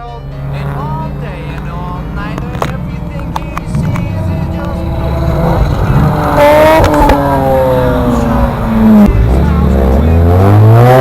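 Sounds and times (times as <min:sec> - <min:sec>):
rotary engine revving: 0:00.3 - 0:11.0
exhaust cracks: 0:00.4 - 0:11.0.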